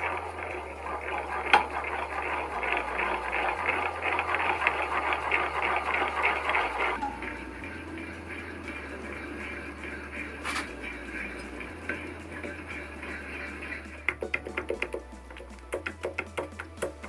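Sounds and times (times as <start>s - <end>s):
bearing rattling metallically: 0.0s - 17.0s.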